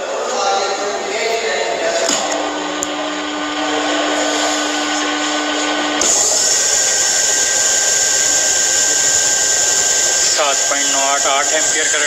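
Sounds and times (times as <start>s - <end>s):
steady electrical hum: 0.0s - 12.0s
electric motor starting with whine: 1.7s - 12.0s.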